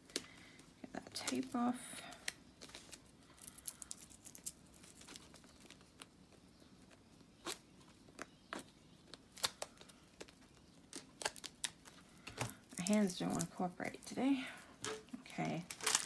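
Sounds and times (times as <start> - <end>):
plastic cover crackling and rustling: 0.9 - 14.2, 14.8 - 16.0.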